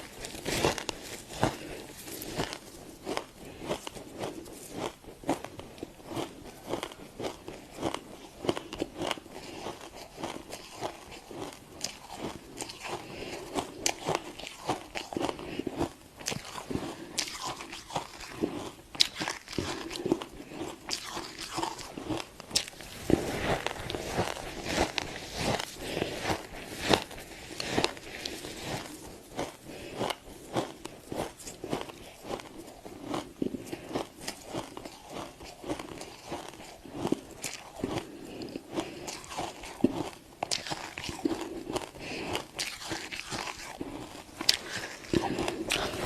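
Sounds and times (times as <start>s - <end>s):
frost being chewed: 0.0s - 46.0s.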